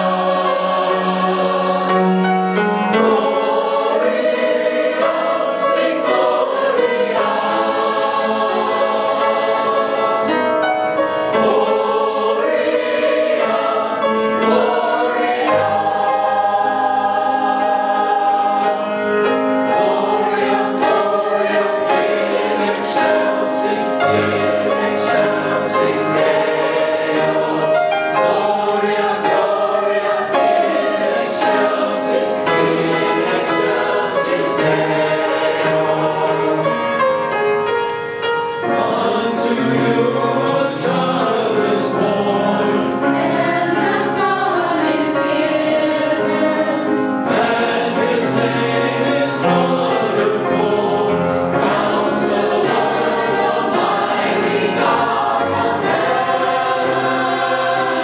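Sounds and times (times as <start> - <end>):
church choir singing in parts: 0.0 - 58.0.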